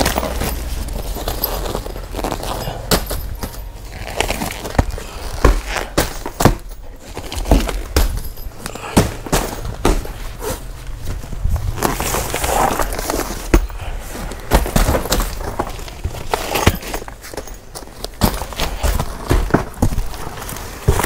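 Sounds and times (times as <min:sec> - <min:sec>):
plastic wrapping crinkling: 0:00.0 - 0:08.8, 0:09.5 - 0:21.0
packages knocking and clattering: 0:00.0 - 0:21.0.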